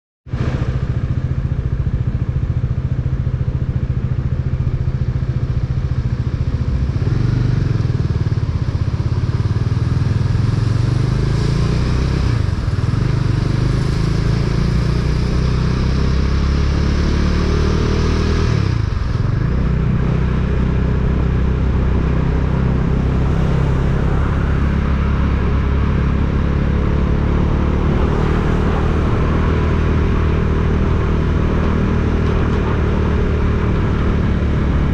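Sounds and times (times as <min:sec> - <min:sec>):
vehicle engine running: 0:00.3 - 0:34.9.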